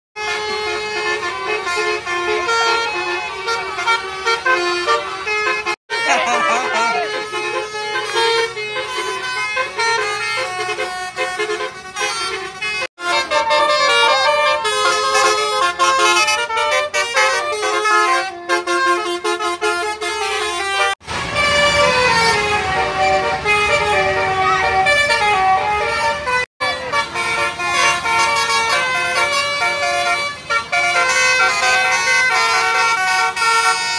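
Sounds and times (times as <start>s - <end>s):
musical air horn melodies: 0.2s - 33.9s.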